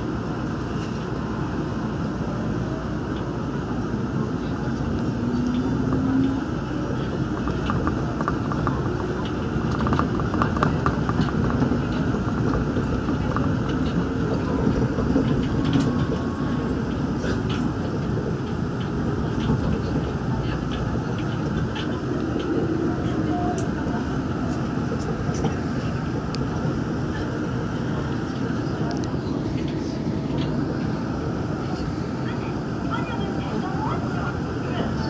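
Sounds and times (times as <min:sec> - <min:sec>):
monorail running noise: 0:00.0 - 0:35.0.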